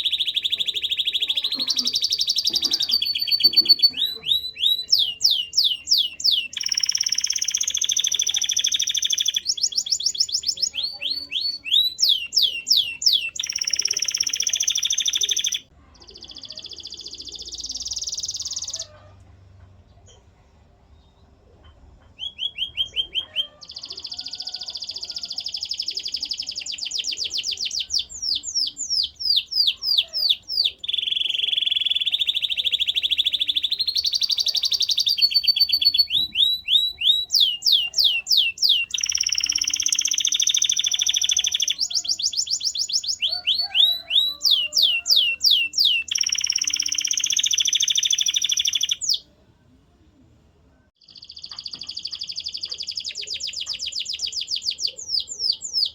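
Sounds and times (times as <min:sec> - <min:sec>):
canary singing trills: 0:00.0 - 0:19.1, 0:22.0 - 0:49.3, 0:51.0 - 0:55.9.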